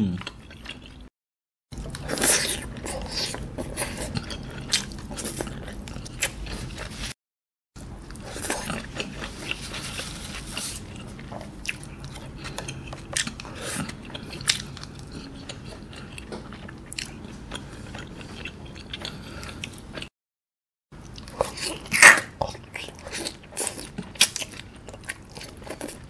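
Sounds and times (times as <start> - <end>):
person chewing wetly: 0.2 - 1.1, 1.8 - 7.1, 7.8 - 20.1, 21.0 - 26.0.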